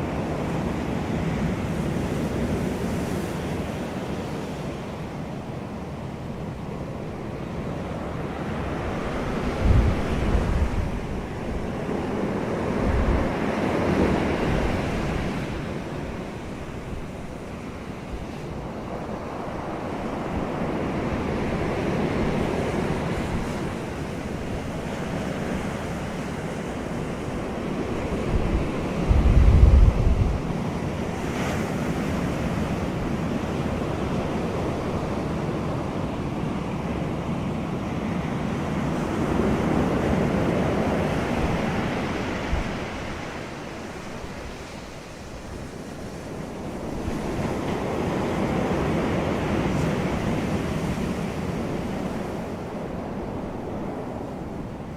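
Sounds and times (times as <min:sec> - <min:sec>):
wind gusts: 0:00.0 - 0:54.9
wind buffeting microphone: 0:07.9 - 0:37.2, 0:37.8 - 0:54.9.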